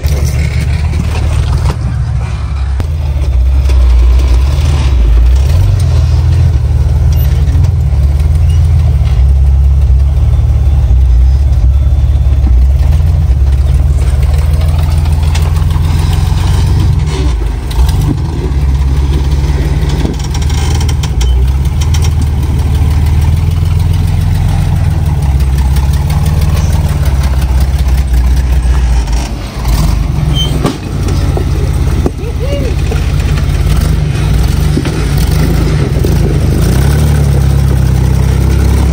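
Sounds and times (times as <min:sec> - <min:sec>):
buggy engine running at low revs: 0:00.0 - 0:38.9.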